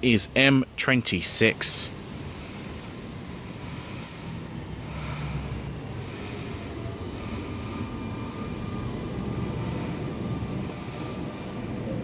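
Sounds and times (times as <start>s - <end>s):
train rumble with motor whine: 0.0s - 12.0s.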